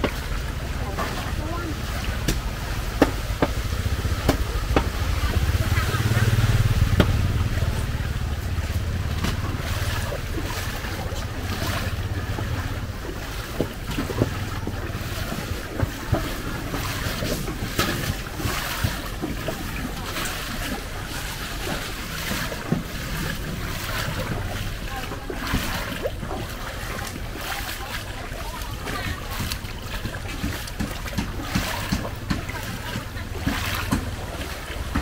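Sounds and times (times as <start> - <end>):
heavy rain: 0.0 - 30.0
low rumble: 0.0 - 35.0.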